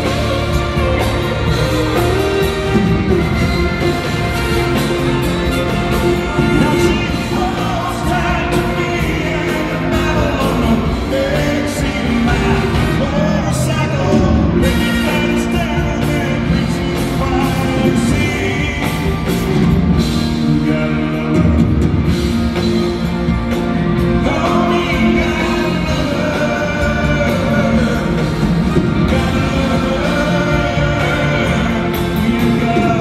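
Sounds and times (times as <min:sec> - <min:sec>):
man singing lead vocal: 0:00.0 - 0:22.9, 0:23.9 - 0:33.0
live country band playing: 0:00.0 - 0:33.0.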